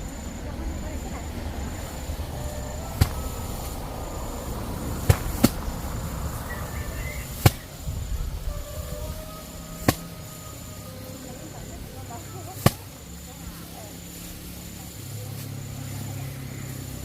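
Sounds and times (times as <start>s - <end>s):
low rumbling background: 0.0s - 17.0s.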